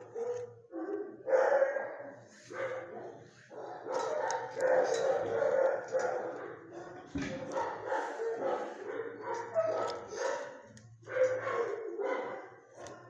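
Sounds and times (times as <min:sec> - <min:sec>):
dog barking: 0:00.0 - 0:13.0.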